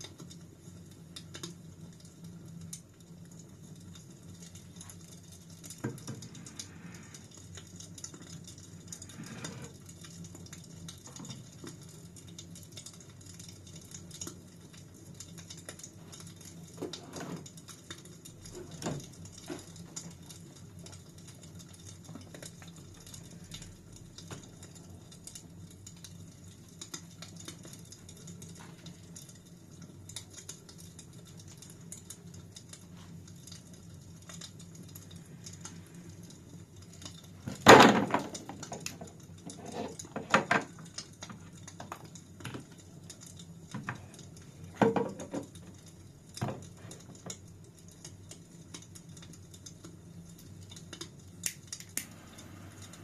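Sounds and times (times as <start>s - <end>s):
fire crackling: 0.0s - 53.0s
fire popping: 0.0s - 53.0s.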